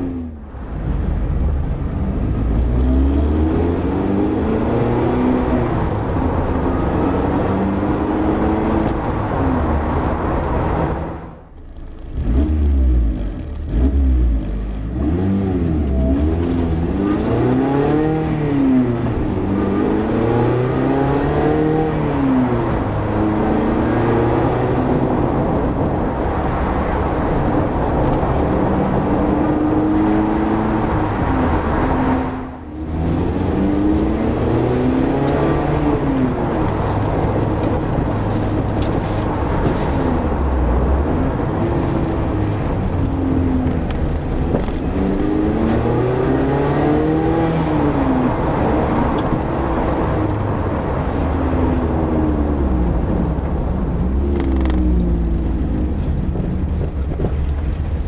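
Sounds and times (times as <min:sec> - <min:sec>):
car engine revving: 0:00.0 - 0:58.0
road noise: 0:00.0 - 0:58.0.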